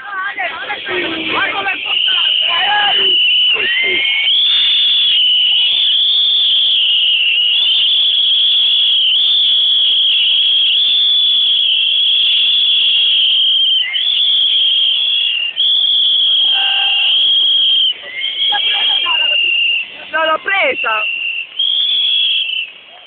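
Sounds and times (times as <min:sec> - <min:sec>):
fans whistling shrilly: 0:00.2 - 0:23.0.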